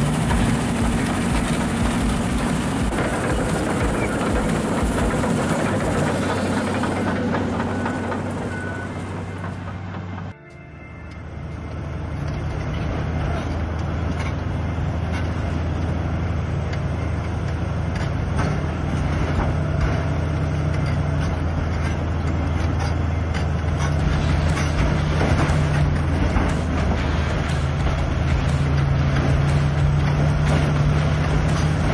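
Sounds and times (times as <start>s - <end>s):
bulldozer diesel engine running: 0.0s - 31.9s
clanks from steel tracks: 0.0s - 31.9s.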